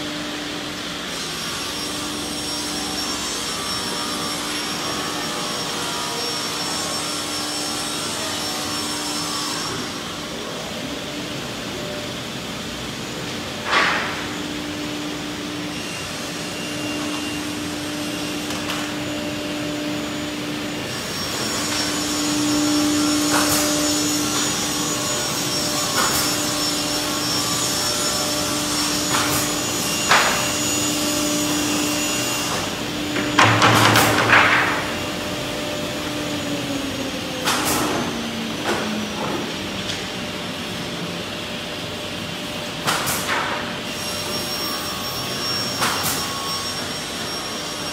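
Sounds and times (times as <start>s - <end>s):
workshop machinery humming: 0.0s - 47.9s.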